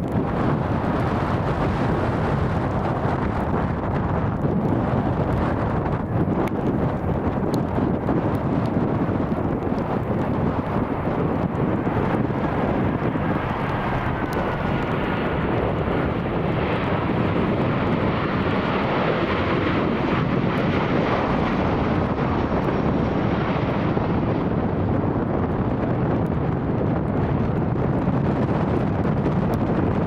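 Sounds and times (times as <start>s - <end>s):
jet engines running: 0.0s - 30.0s
wind buffeting microphone: 0.0s - 30.0s.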